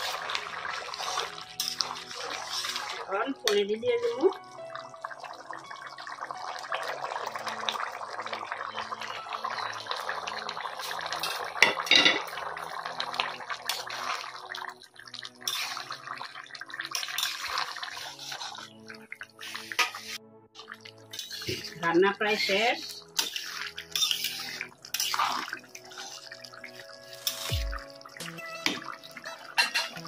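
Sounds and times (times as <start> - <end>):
thick curry bubbling: 0.0 - 3.2, 4.0 - 11.6, 12.2 - 28.0.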